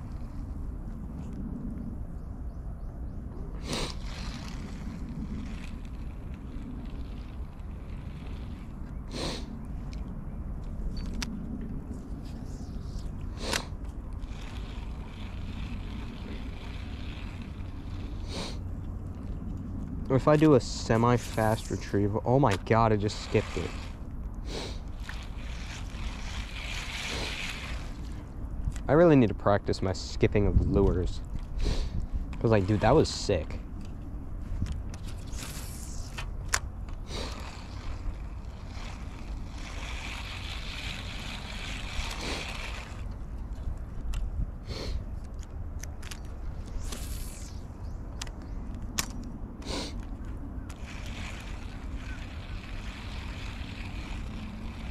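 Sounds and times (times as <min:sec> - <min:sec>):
steady low rumble: 0:00.0 - 0:54.9.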